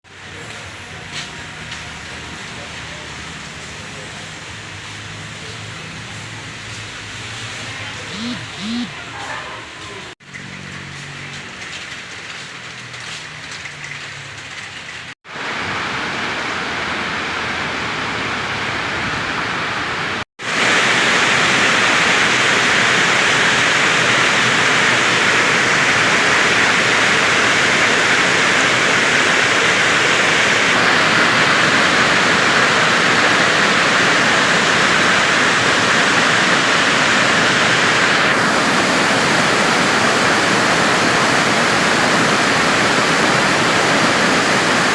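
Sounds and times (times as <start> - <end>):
heavy rain pouring: 0.1 - 8.7, 10.1 - 44.9.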